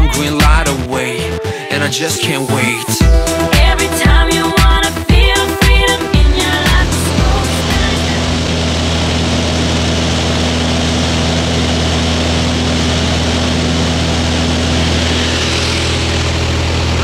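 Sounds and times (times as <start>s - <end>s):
plane engine and propeller drone: 3.0s - 17.0s.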